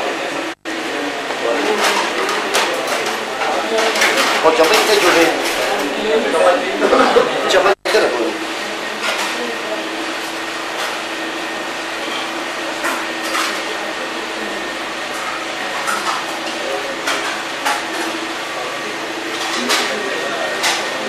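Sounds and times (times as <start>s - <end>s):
electric fan whirring: 0.0s - 21.0s.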